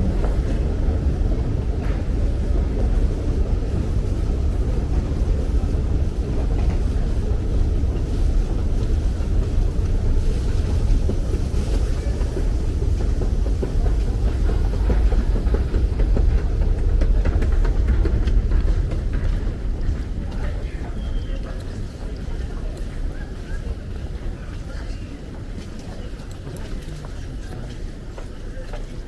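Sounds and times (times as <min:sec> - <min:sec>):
station ambience rumble: 0:00.0 - 0:29.0
train noise: 0:00.0 - 0:29.0.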